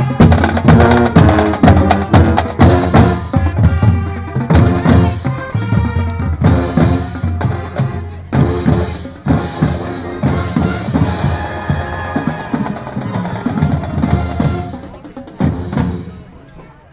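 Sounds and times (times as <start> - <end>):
snare and bass drum beats: 0.0 - 16.3
marching band playing: 0.0 - 16.5.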